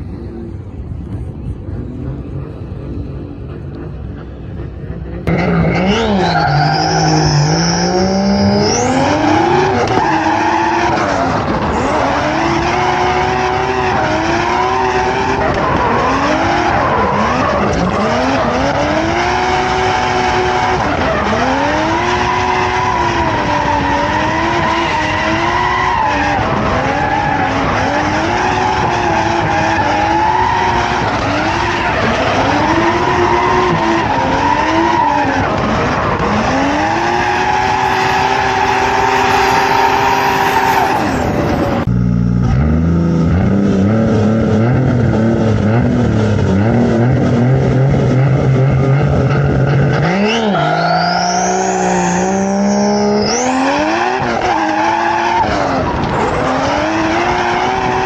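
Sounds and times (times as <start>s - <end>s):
car engine revving: 0.0s - 58.0s
tyres skidding: 0.0s - 58.0s.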